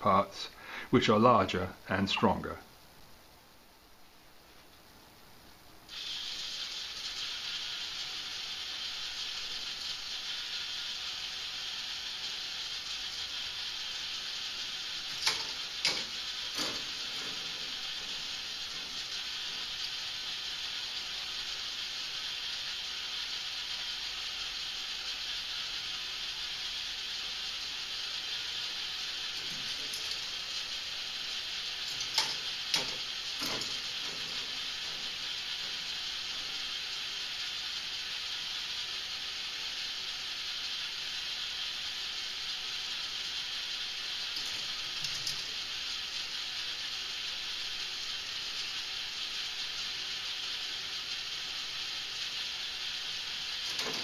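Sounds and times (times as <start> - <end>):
balls rolling on plastic track: 5.9 - 54.0
motorized ball lift whirring: 5.9 - 54.0.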